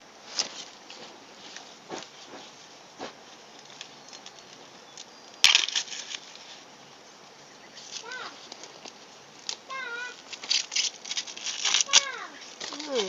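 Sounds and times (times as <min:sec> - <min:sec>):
raw corn crunching: 0:00.2 - 0:06.7, 0:07.7 - 0:13.0.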